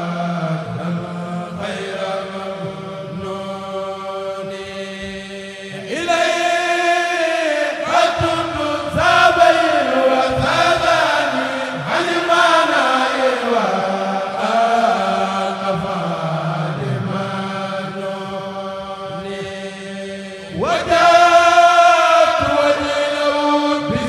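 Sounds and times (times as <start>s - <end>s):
chorus chanting with held notes: 0.0s - 24.0s.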